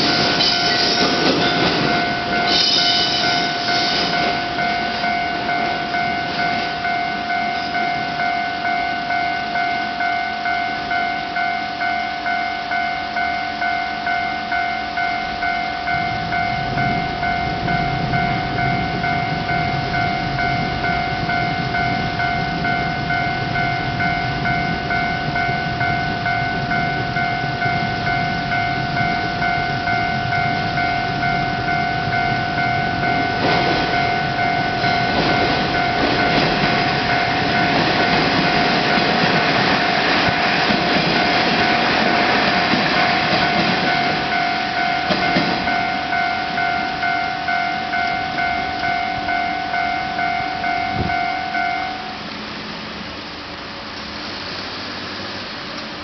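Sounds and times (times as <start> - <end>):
level-crossing alarm ringing: 0.0 - 53.2
train rumble: 0.0 - 56.0.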